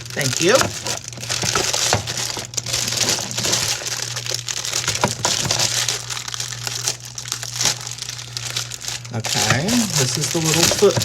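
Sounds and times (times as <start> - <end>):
styrofoam and plastic rustling: 0.0 - 11.0.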